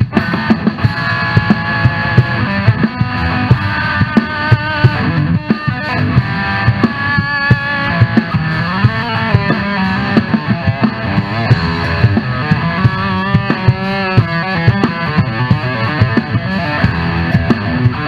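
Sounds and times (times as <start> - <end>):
drums: 0.0 - 18.0
electric guitar solo: 0.0 - 18.0.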